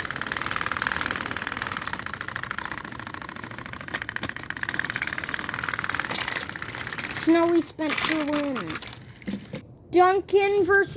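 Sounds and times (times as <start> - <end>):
toy train motors whirring: 0.0 - 9.1.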